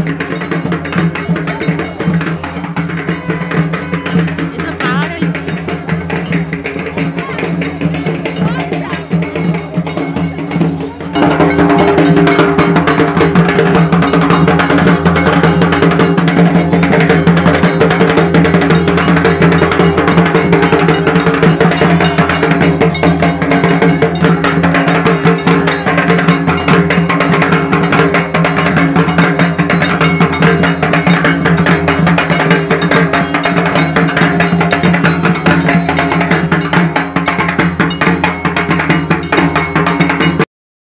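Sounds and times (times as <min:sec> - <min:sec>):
drums beaten fast: 0:00.0 - 0:40.5
rapid metallic strikes: 0:00.0 - 0:40.5.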